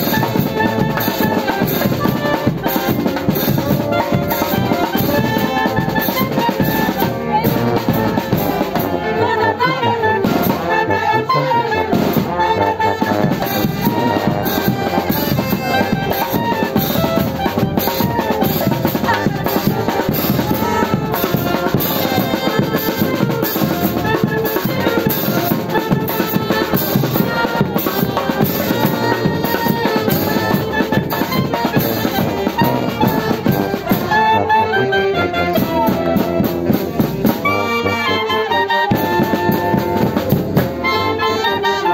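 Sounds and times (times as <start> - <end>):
drums keeping a beat: 0.0 - 11.0, 11.6 - 41.9
brass band playing dance music: 0.0 - 41.9.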